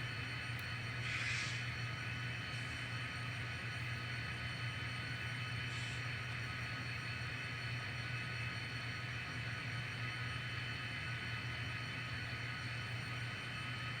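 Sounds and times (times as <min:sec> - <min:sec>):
model locomotive engine drone: 0:00.0 - 0:14.0.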